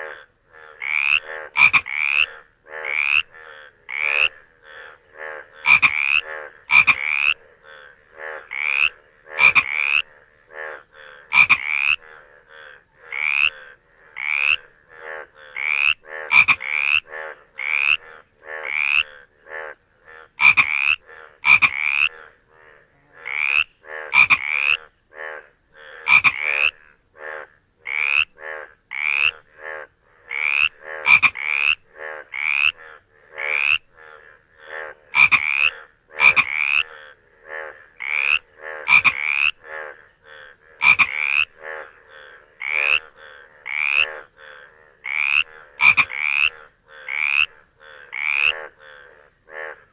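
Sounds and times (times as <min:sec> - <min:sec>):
frogs croaking: 0:00.0 - 0:49.9.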